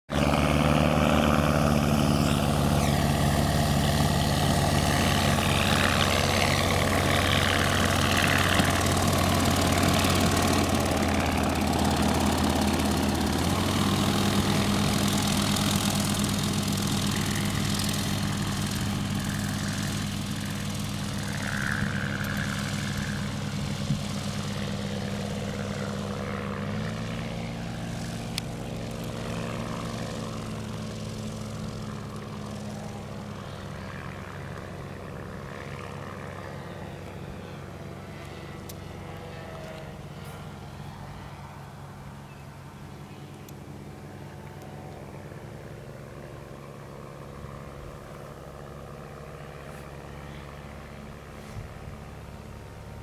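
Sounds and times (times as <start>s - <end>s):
light aircraft engine and propeller: 0.1s - 53.0s.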